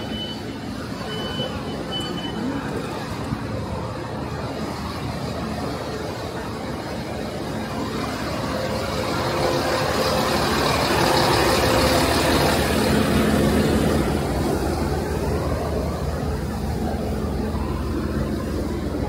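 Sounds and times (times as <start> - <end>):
diesel train engine idling: 0.0 - 19.0.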